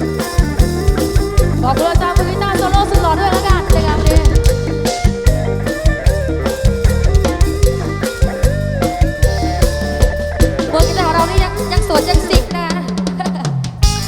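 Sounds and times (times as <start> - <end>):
drum kit beat: 0.0 - 14.0
live band playing instrumental: 0.0 - 14.0.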